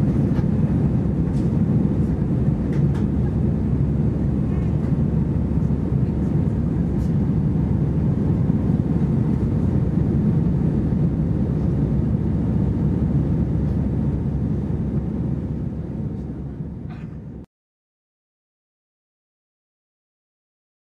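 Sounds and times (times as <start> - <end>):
airplane cabin drone: 0.0 - 17.5.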